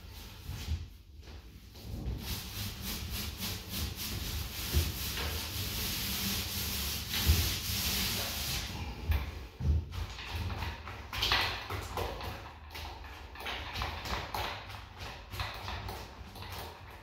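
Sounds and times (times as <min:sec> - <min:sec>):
paint roller rubbing on wall: 0:00.0 - 0:17.0.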